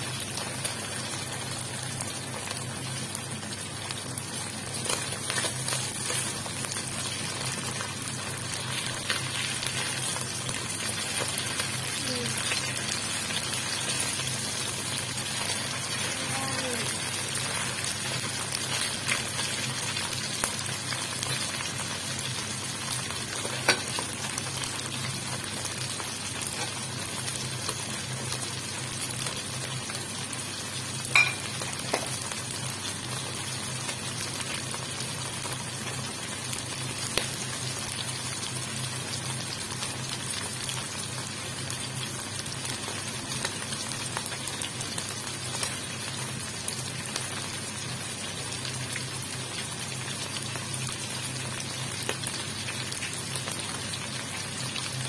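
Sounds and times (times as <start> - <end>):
livers sizzling in oil: 0.0 - 55.0.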